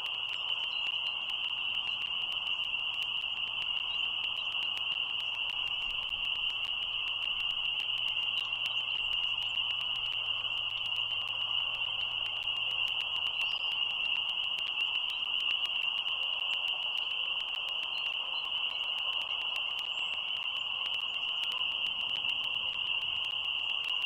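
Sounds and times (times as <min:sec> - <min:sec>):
frogs trilling: 0:00.0 - 0:24.0
scattered clicks: 0:00.0 - 0:24.0.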